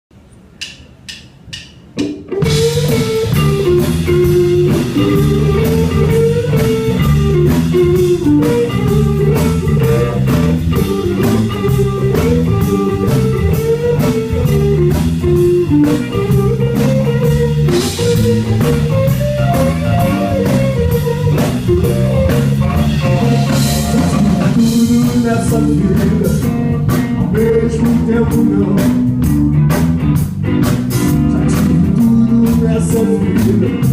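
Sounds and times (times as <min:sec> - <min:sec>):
drums: 0:00.1 - 0:33.9
bass guitar: 0:02.1 - 0:33.9
electric guitar: 0:02.2 - 0:33.9.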